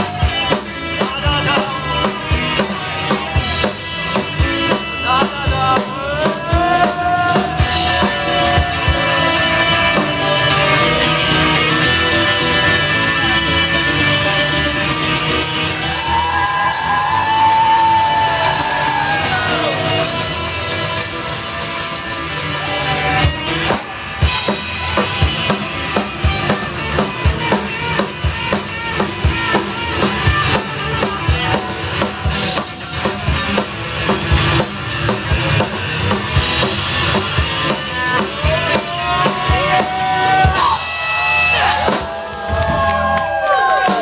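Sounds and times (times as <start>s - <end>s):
drum kit beat: 0.0s - 44.0s
electric guitar: 0.0s - 44.0s.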